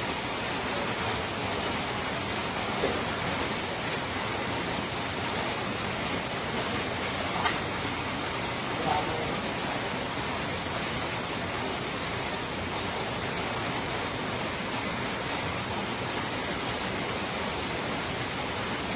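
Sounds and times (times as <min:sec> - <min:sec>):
water rushing in pipes: 0:00.0 - 0:18.9.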